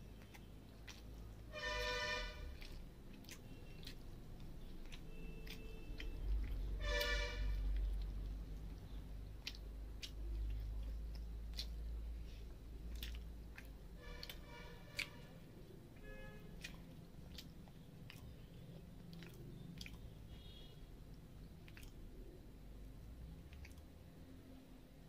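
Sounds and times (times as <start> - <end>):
wet mouth clicks and smacks: 0.0 - 1.5, 2.5 - 22.6, 23.3 - 24.6
close-up chewing: 0.0 - 25.0
rice squishing by hand: 0.0 - 25.0.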